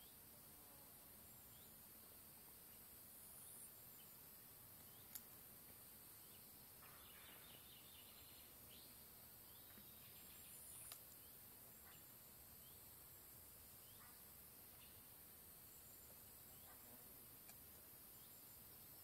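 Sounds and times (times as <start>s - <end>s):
steady high hiss: 0.0s - 19.0s
distant bird chirps: 2.7s - 5.4s, 6.0s - 19.0s.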